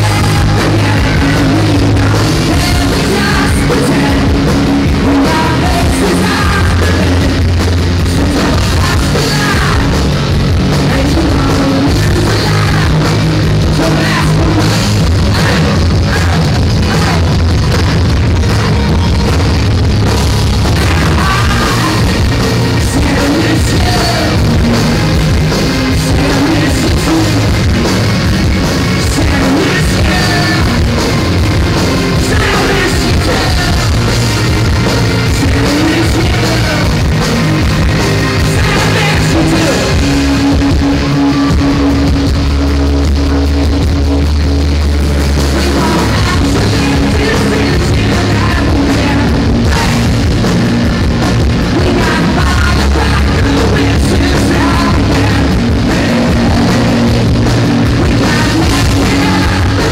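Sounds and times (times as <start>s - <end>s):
man singing lead vocals: 0.0s - 19.4s, 20.3s - 42.3s, 45.2s - 59.9s
bass guitar: 0.0s - 59.9s
drum kit: 0.0s - 59.9s
electric guitars: 0.0s - 59.9s.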